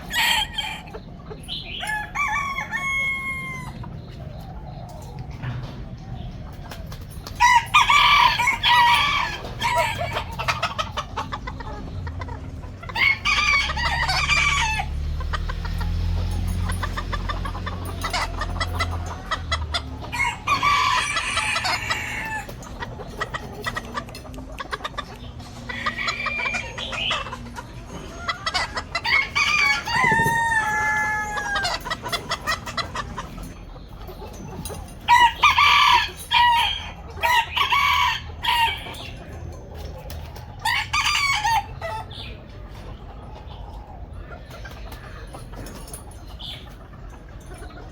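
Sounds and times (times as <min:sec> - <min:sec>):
chickens clucking: 0:00.0 - 0:47.9
roosters crowing: 0:00.0 - 0:47.9.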